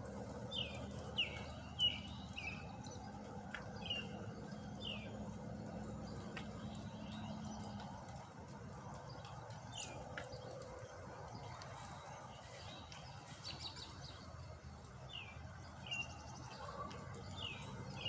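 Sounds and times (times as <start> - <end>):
bird chirping: 0.5 - 8.3, 8.9 - 18.0.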